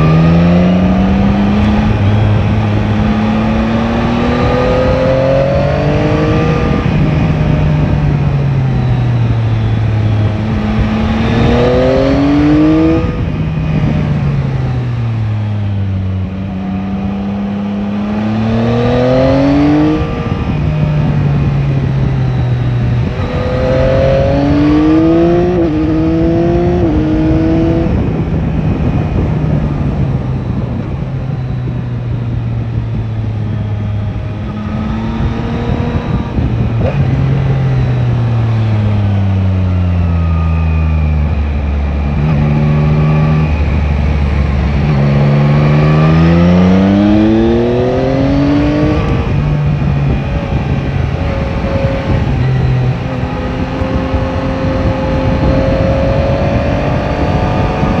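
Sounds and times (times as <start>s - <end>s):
motorcycle engine shifting gears: 0.0s - 58.0s
wind rush: 0.0s - 58.0s.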